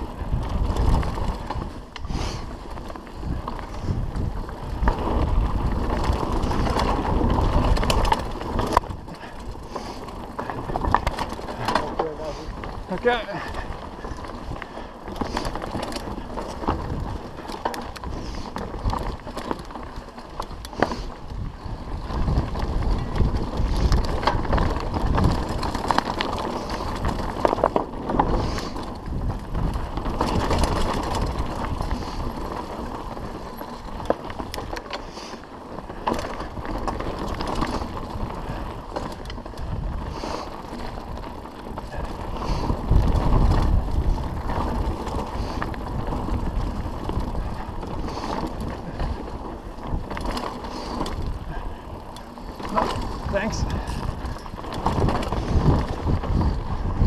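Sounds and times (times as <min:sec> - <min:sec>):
wind on microphone: 0:00.0 - 0:19.4, 0:20.6 - 0:34.8, 0:35.9 - 0:57.0
bike rattling and knocking: 0:00.0 - 0:57.0
tyres crunching over dirt: 0:00.0 - 0:57.0.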